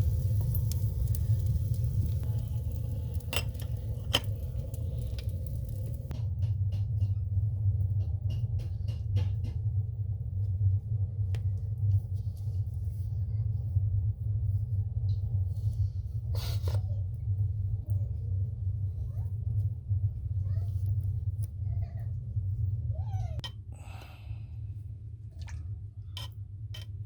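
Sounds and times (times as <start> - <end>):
low rumble: 0.0 - 26.1.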